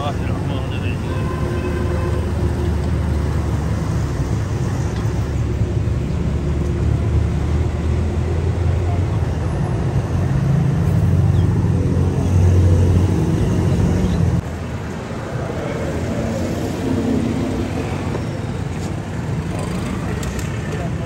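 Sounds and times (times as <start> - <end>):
busy street background: 0.0 - 21.0.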